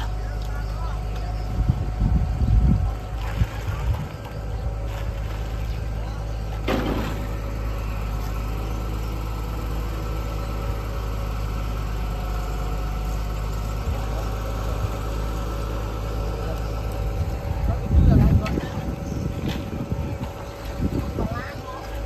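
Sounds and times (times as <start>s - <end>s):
machinery engine droning: 0.0s - 22.0s.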